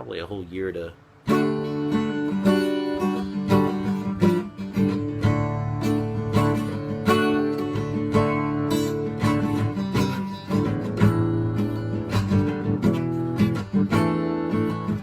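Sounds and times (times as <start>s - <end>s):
acoustic guitar strumming: 0.1s - 15.0s.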